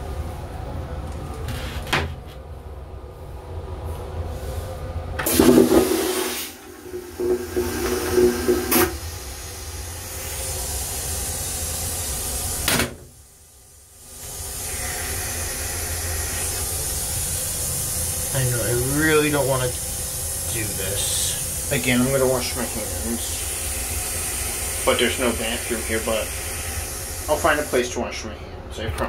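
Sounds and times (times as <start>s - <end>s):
toilet flushing with motor hum: 3.9s - 29.0s.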